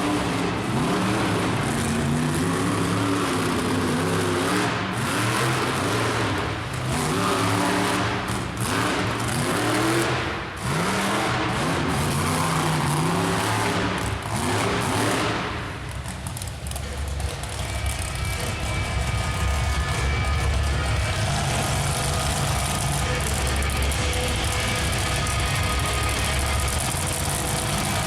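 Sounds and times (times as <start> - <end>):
large vehicle engine revving: 0.0 - 28.0.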